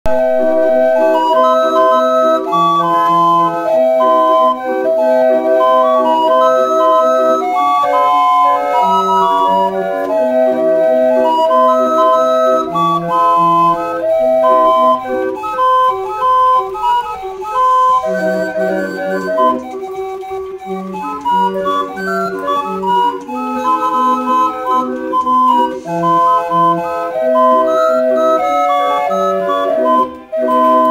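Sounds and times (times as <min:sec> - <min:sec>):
barrel organ playing a tune: 0:00.0 - 0:30.9.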